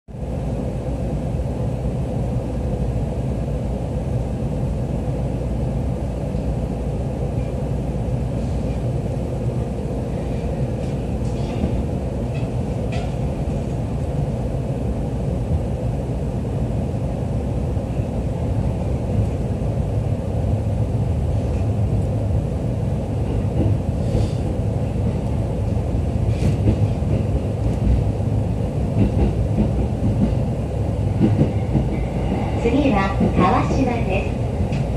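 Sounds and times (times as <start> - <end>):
train wheels rumbling on rail: 0.1 - 34.9.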